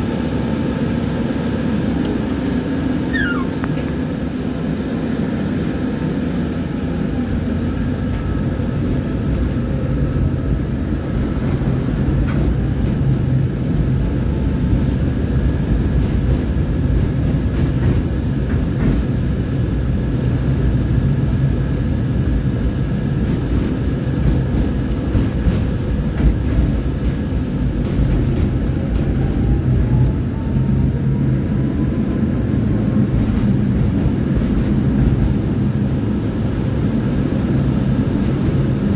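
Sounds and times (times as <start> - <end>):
tram wheels rumbling on rails: 0.0 - 38.9.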